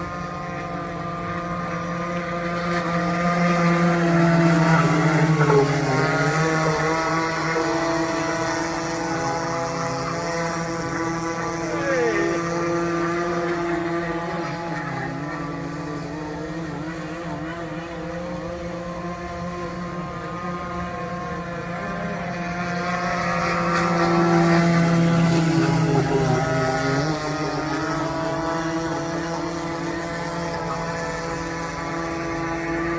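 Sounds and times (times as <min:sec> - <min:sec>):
model boat motor whine: 0:00.0 - 0:32.9.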